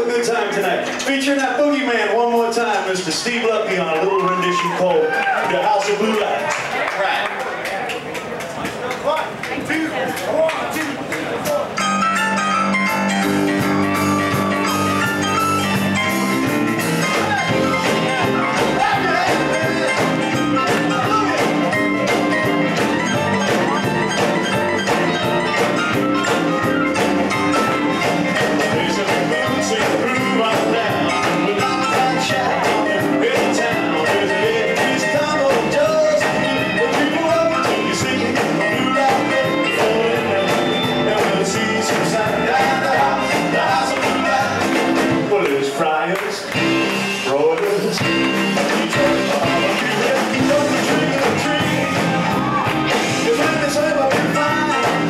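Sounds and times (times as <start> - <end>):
live rock band playing: 0.0 - 6.5, 11.4 - 55.0.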